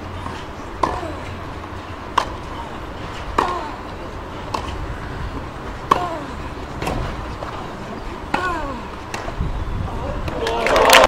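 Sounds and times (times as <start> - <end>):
rackets hitting tennis ball: 0.0 - 9.4.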